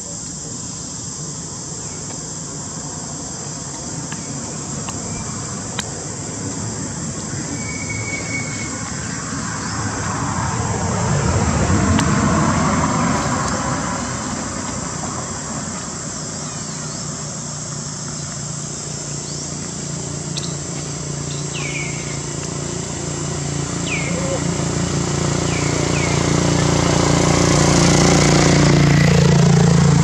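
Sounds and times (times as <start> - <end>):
high-pitched whine: 0.0 - 30.0
vehicle passing by: 4.5 - 30.0.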